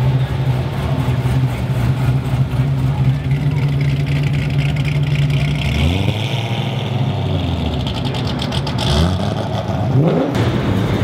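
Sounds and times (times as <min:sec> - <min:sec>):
car engine running: 0:00.0 - 0:11.0
engine revving: 0:00.6 - 0:11.0.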